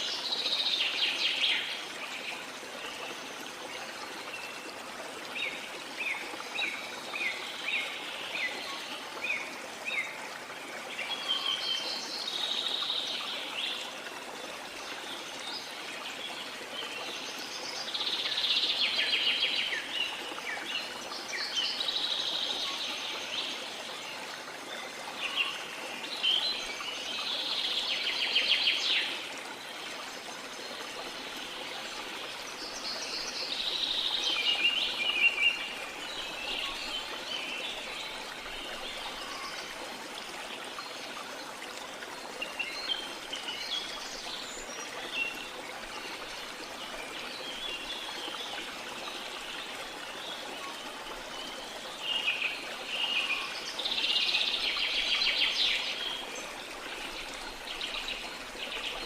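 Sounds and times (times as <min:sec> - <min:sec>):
flowing river: 0:00.0 - 0:59.0.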